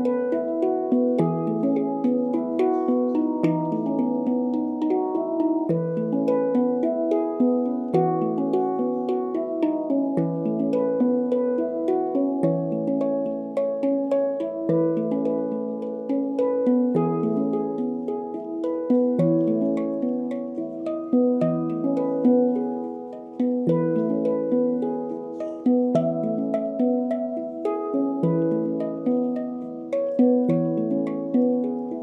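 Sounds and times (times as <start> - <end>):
handpan notes: 0.0 - 32.0.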